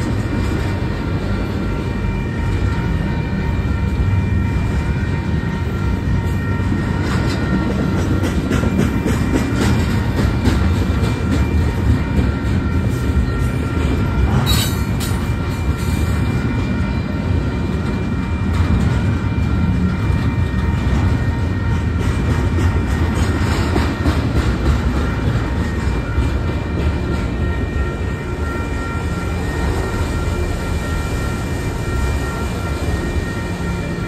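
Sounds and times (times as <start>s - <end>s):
freight train rumbling past: 0.0s - 34.0s
wheels clattering on rails: 0.0s - 34.0s.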